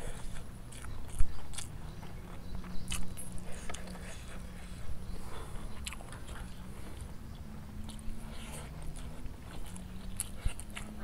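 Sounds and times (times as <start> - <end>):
close-up chewing: 0.0 - 11.0.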